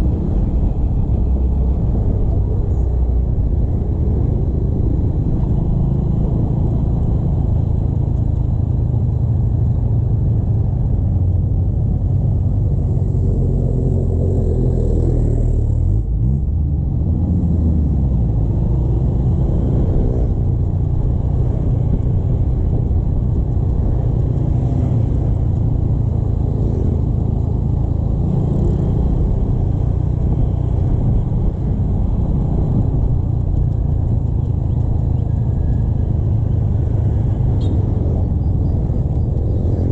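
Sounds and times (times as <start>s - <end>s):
motorcycle engine and road rumble: 0.0s - 39.9s.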